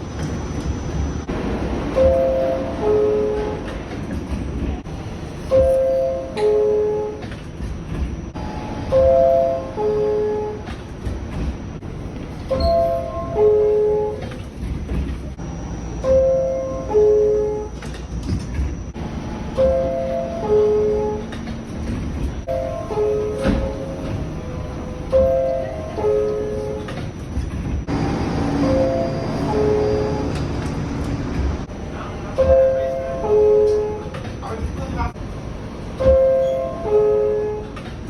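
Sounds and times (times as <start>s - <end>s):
low rumble of train: 0.0s - 38.0s
subway door chime: 0.0s - 38.0s.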